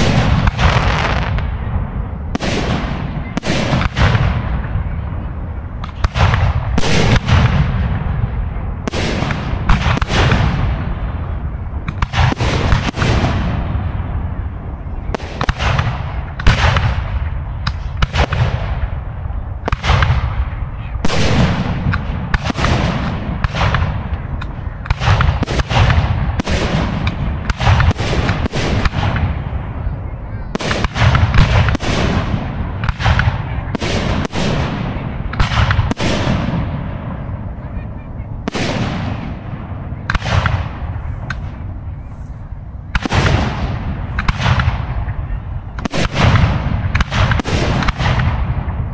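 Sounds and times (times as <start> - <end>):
fireworks booming: 0.0 - 42.1, 42.9 - 48.9
continuous low rumble: 0.0 - 48.9.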